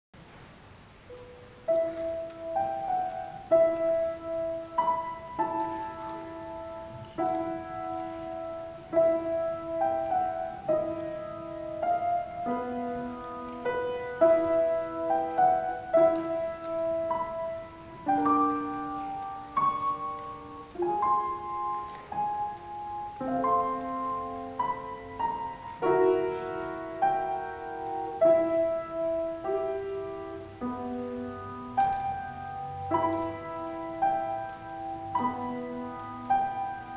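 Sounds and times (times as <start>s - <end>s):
solo grand piano: 0.2s - 36.9s.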